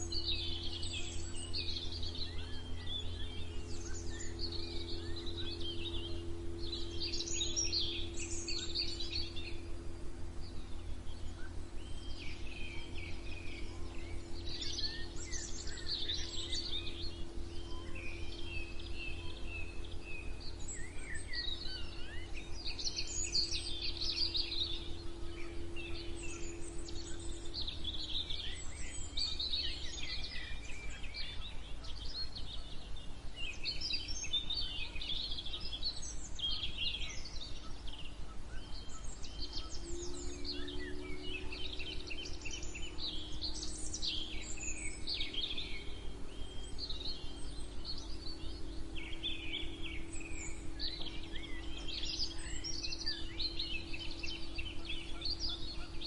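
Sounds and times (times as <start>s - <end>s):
low hum: 0.0s - 56.0s
songbirds singing and chirping: 0.0s - 56.0s.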